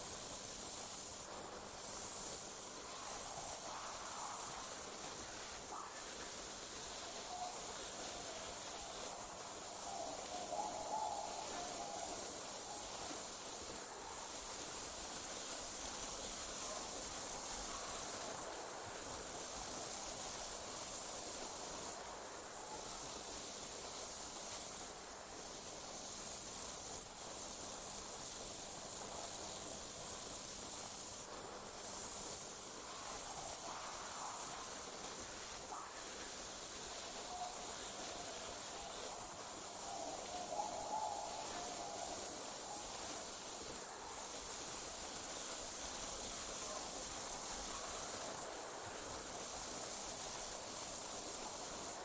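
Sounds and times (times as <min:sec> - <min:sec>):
night insects trilling: 0:00.0 - 0:52.0.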